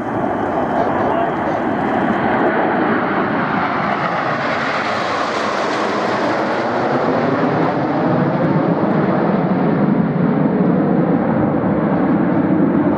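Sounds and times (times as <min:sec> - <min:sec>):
jets passing with roar: 0:00.0 - 0:12.9.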